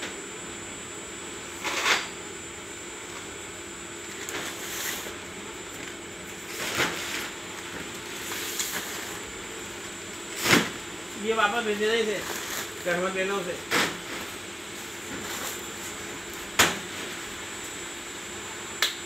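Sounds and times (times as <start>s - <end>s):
conveyor hum: 0.0s - 19.0s.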